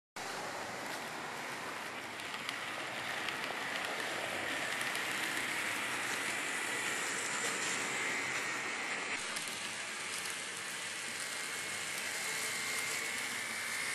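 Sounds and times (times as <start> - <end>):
model train whirring: 0.2 - 13.9.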